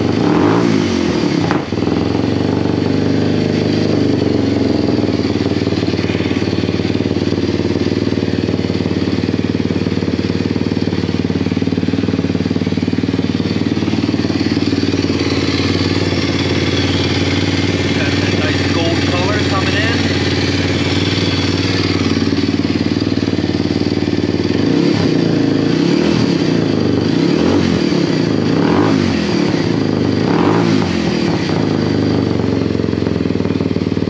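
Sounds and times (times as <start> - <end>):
motorcycle engine idling loudly: 0.0 - 34.0.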